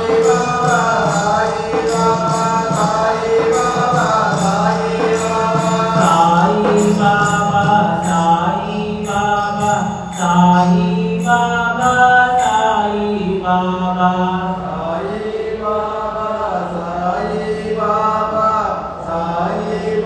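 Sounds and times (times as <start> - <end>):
devotional chant in held notes: 0.0 - 20.0.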